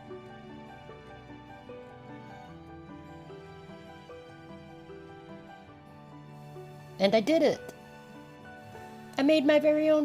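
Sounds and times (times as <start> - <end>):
soft instrumental background music: 0.0 - 10.0.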